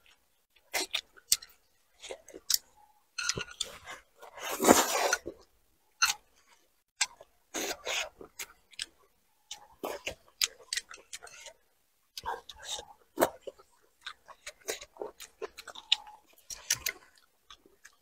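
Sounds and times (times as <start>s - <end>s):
person chewing and smacking: 0.0s - 18.0s.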